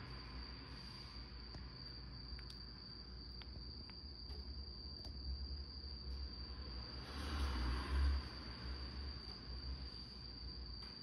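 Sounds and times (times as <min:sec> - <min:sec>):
high-pitched whine: 0:00.0 - 0:11.0.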